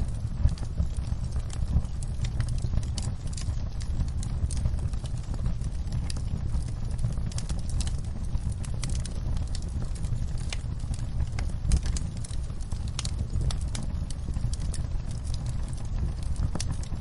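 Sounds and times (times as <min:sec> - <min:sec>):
sharp pops and snaps: 0:00.0 - 0:17.0
wood fire crackling: 0:00.0 - 0:17.0.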